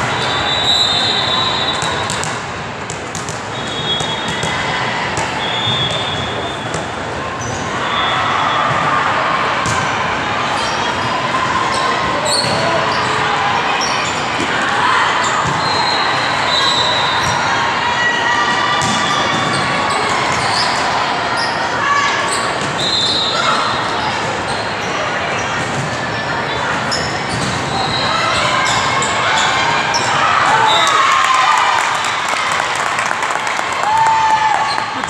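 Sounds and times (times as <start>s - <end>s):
crowd voices: 0.0s - 35.0s.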